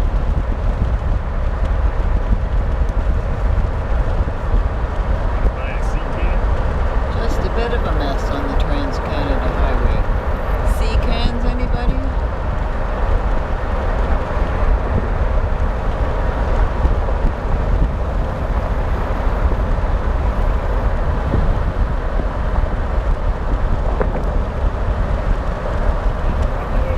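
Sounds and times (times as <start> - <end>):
car road and wind noise: 0.0 - 26.9.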